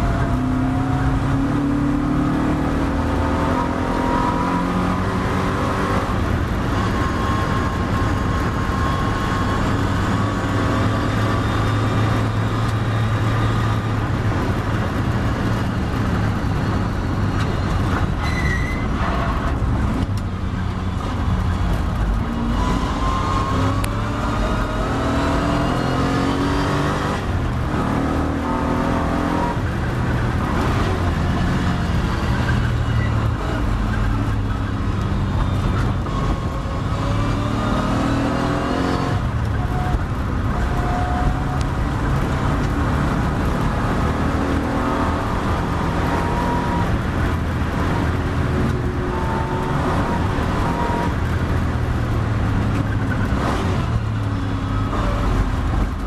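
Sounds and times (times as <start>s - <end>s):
race car engine revving: 0.0s - 18.1s, 18.8s - 56.0s.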